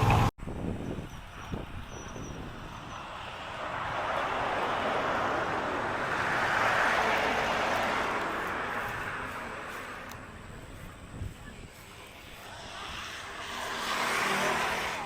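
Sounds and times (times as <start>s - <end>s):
road vehicle passing by: 0.0s - 0.3s, 1.3s - 15.0s.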